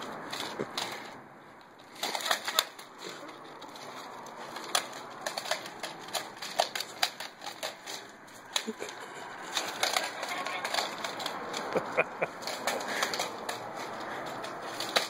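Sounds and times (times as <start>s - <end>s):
dog claws clicking on concrete: 0.0s - 15.0s.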